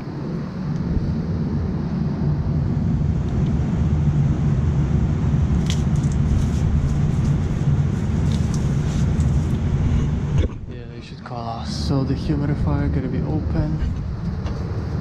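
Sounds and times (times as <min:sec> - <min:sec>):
gas furnace rumbling: 0:00.0 - 0:15.0.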